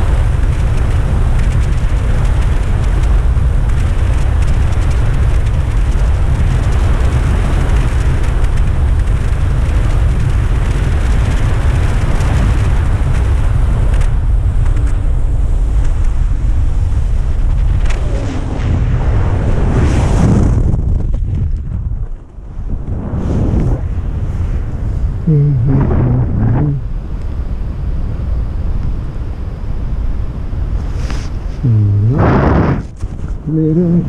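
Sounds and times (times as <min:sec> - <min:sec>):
wind buffeting microphone: 0:00.0 - 0:29.0, 0:31.3 - 0:34.0.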